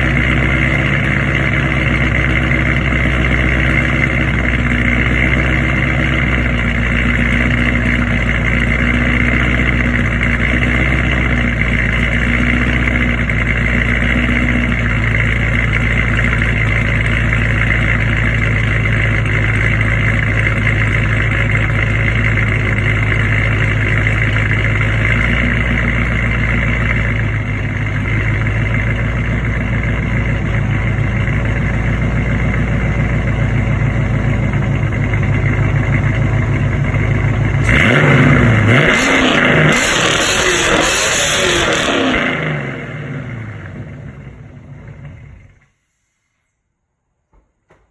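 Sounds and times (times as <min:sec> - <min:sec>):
car engine idling: 0:00.0 - 0:45.7.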